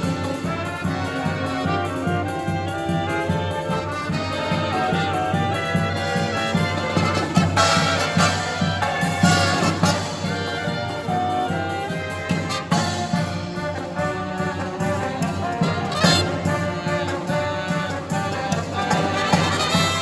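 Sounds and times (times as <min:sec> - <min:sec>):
brass marching band playing: 0:00.0 - 0:20.0.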